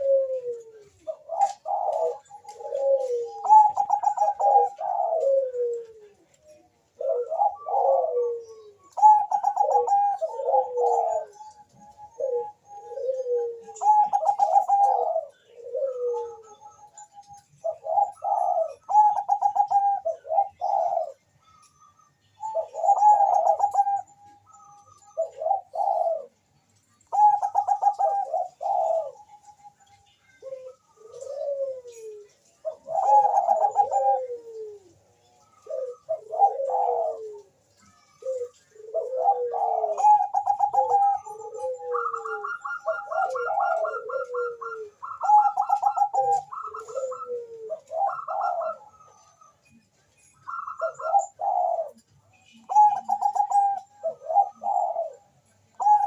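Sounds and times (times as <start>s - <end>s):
doves cooing: 0.0s - 56.0s
trilled coo: 0.0s - 56.0s.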